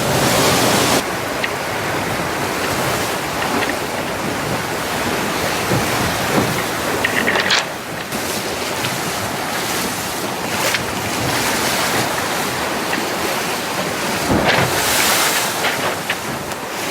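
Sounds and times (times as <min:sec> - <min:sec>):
water rushing along a hull: 0:00.0 - 0:16.9.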